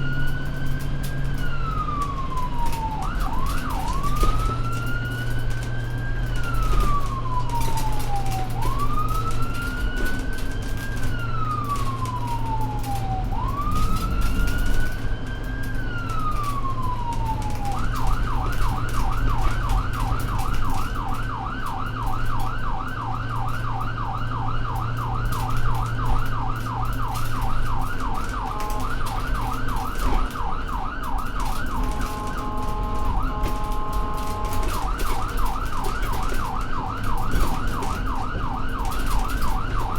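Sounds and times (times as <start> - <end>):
ambulance siren wail and yelp: 0.0 - 39.9
vehicle driving hum: 0.0 - 39.9.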